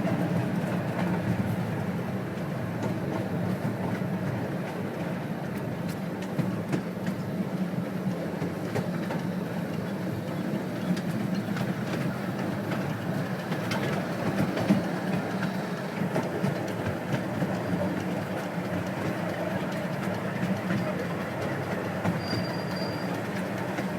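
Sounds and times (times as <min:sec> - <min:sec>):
steam train rumbling on track: 0:00.0 - 0:23.9
wheels clicking on rail: 0:00.0 - 0:23.9.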